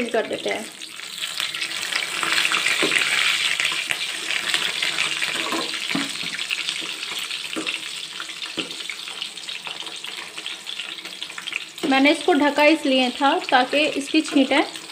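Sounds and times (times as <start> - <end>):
meat sizzling in hot oil: 0.0 - 14.9.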